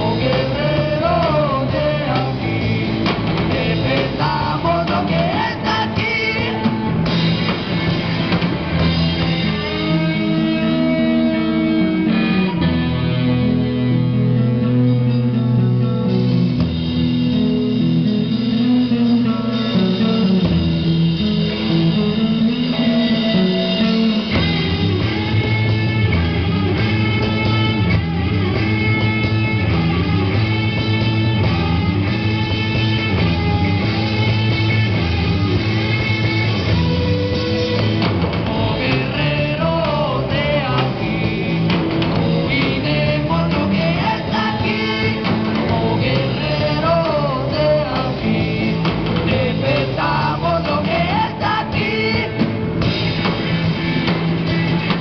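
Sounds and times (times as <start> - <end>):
bass guitar: 0.0 - 55.0
drum kit: 0.0 - 55.0
electric guitar: 0.0 - 55.0
rock band playing: 0.0 - 55.0.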